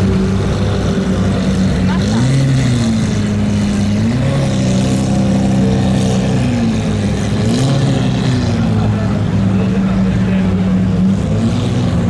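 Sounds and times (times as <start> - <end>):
car engines at low revs: 0.0 - 12.0.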